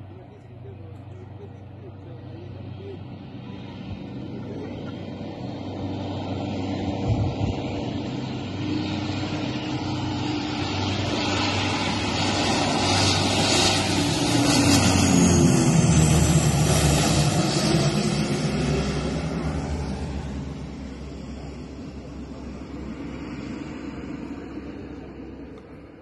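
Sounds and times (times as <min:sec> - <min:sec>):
propeller plane flying past: 0:00.0 - 0:26.0.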